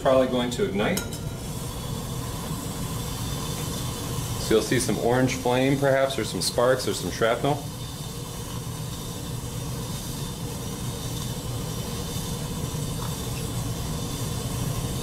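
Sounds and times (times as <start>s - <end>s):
sodium fizzing in water: 1.4s - 15.0s.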